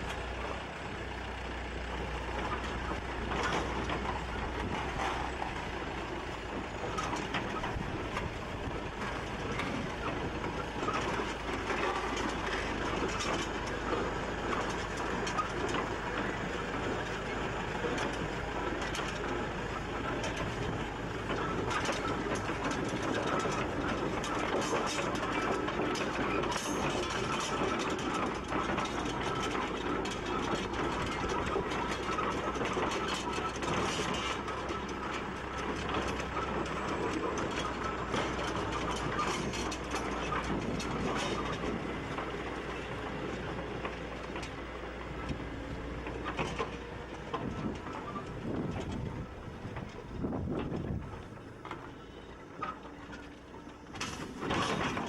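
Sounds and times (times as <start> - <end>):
steam roller clattering: 0.0 - 55.0.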